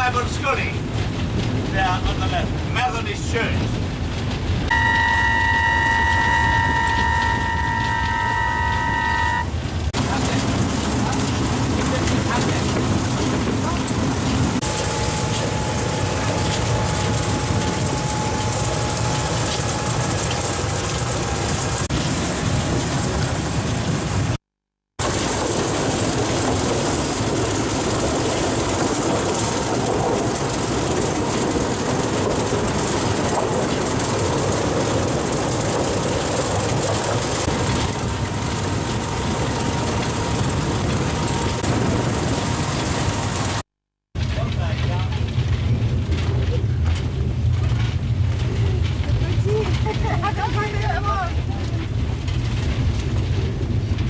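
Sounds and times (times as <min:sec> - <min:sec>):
small train engine and wheels: 0:00.0 - 0:24.4, 0:25.0 - 0:54.0.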